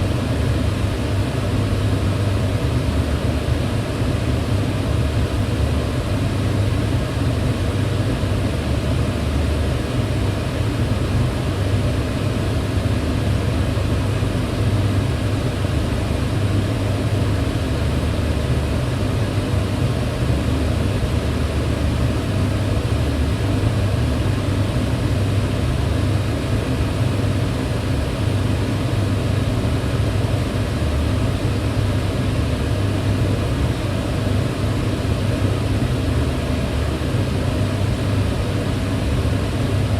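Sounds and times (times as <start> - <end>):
extractor fan running: 0.0 - 39.9.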